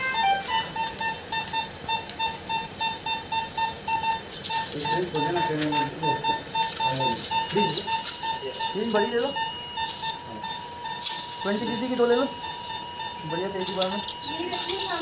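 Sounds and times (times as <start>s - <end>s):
rapid electronic beeping: 0.0s - 15.0s
steady electronic tone: 0.0s - 15.0s.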